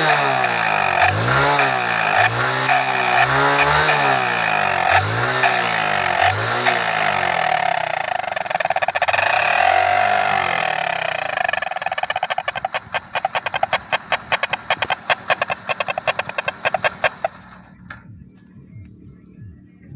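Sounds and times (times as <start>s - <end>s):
rapid honking puffs: 0.0s - 17.8s
motorcycle engine: 0.0s - 18.6s.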